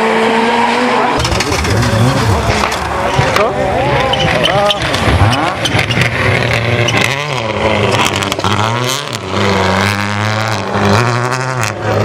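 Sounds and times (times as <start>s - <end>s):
rally car engines revving: 0.0s - 12.0s.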